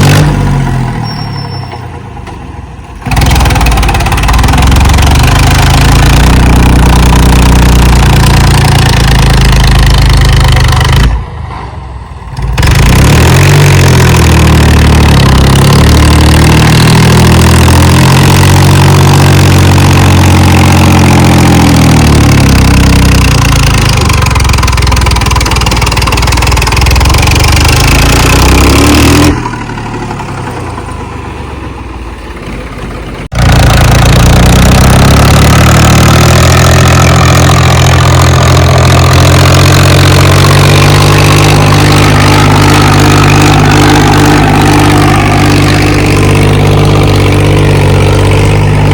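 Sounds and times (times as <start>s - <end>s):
tractor diesel engine revving: 0.0s - 48.9s.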